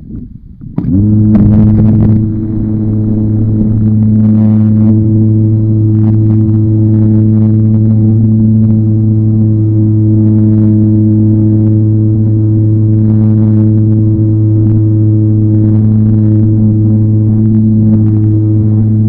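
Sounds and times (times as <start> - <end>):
model airplane motor buzzing: 0.6 - 19.0.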